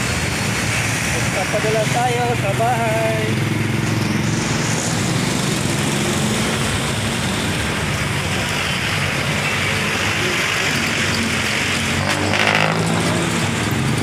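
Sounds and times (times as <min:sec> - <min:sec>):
road hiss: 0:00.0 - 0:14.0
traffic passing close: 0:00.0 - 0:14.0.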